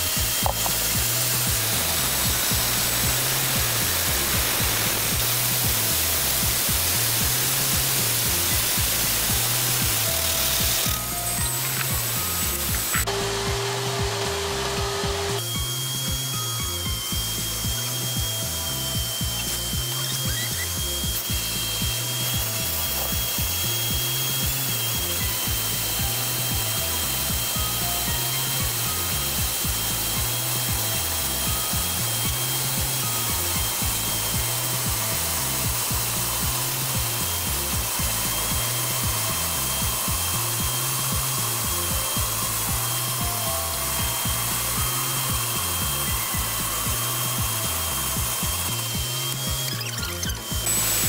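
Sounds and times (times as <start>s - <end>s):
background music with bass line: 0.0s - 51.0s
lathe cutting brake rotor: 0.0s - 51.0s.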